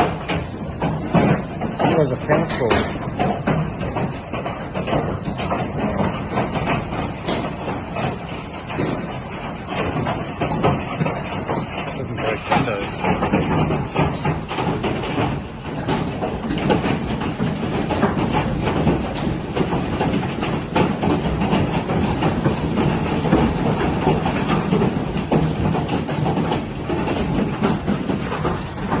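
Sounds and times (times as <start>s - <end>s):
hail clattering: 0.0s - 29.0s
heavy rain: 0.0s - 29.0s.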